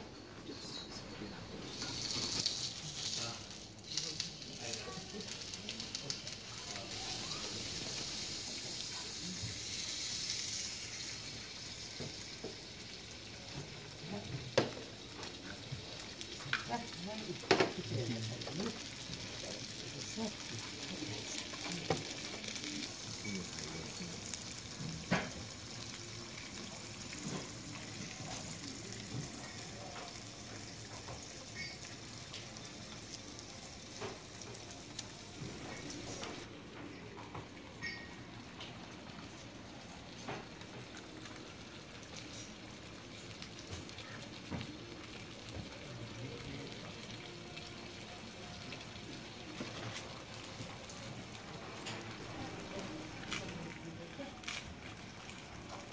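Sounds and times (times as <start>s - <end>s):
food sizzling on a grill plate: 0.6s - 55.9s.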